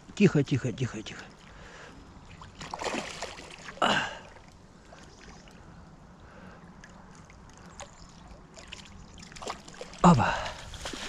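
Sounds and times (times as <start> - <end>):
water splashing and lapping: 1.2 - 11.0.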